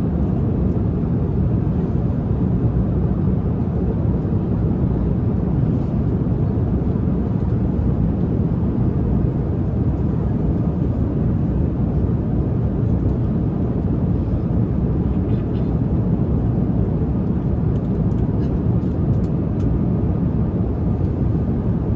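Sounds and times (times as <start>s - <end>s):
airliner cabin drone: 0.0s - 21.9s.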